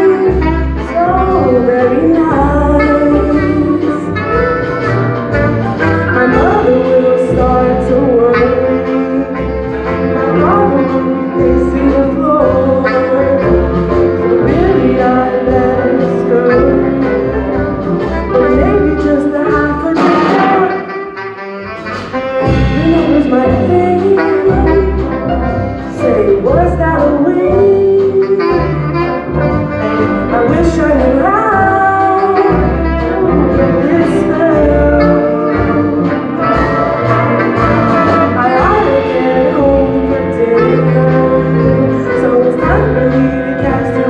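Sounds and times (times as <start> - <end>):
jazz brass and saxophone music: 0.0 - 44.0.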